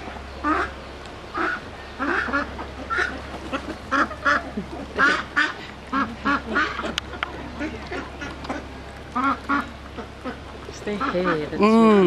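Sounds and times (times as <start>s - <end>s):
ducks quacking: 0.2s - 12.0s.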